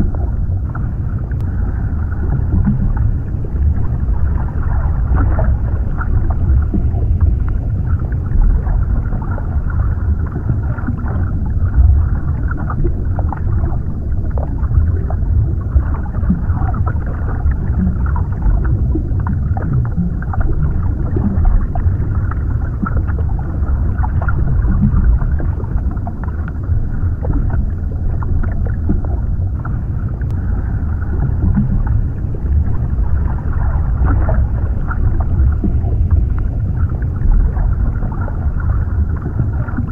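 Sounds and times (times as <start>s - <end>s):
deep underwater wash: 0.0s - 39.9s.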